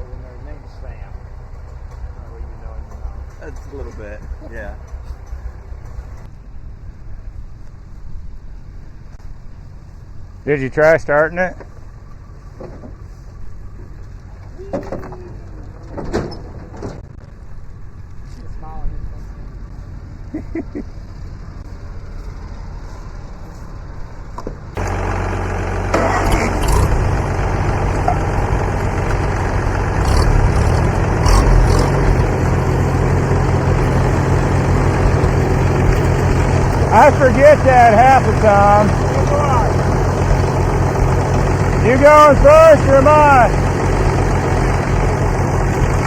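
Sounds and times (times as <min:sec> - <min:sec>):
low engine-like rumble: 0:00.0 - 0:46.0.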